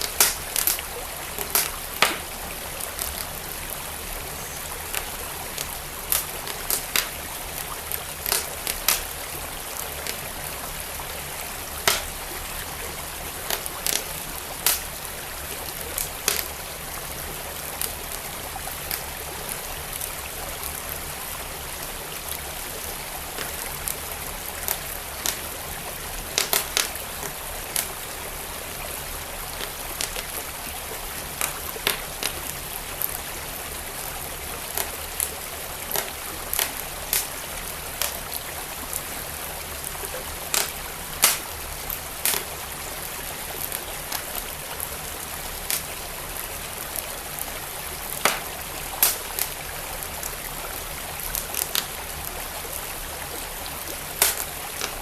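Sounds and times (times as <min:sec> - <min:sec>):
stream flowing: 0:00.0 - 0:55.0
wood fire crackling: 0:00.0 - 0:55.0.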